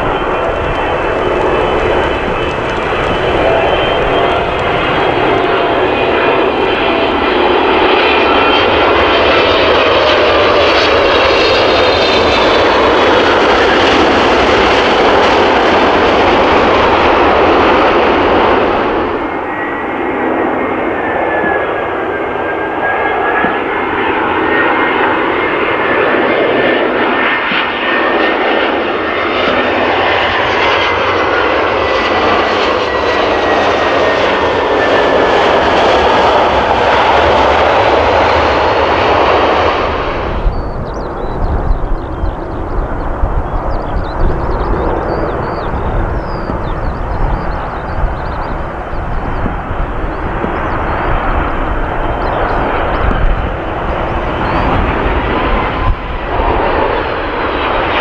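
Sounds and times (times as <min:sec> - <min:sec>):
jet engines whining loudly: 0:00.0 - 0:58.0
quieter steady jet whine: 0:00.0 - 0:58.0.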